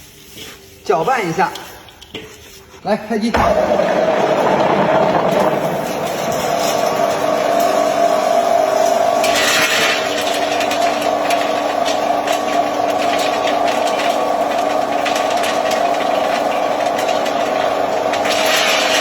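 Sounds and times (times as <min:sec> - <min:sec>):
pellet mill motor humming: 0:03.4 - 0:19.0.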